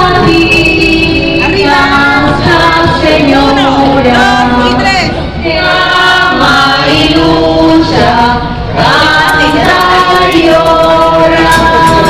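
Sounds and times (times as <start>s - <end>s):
choir singing long notes: 0.0s - 12.0s.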